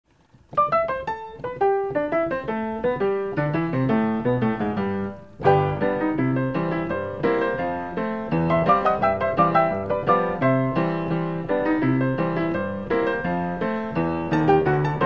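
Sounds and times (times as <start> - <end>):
piano melody with bass line: 0.2 - 15.0.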